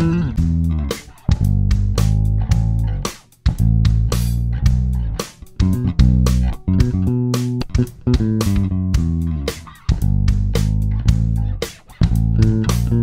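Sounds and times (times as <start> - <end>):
electric bass playing solo: 0.0 - 13.0.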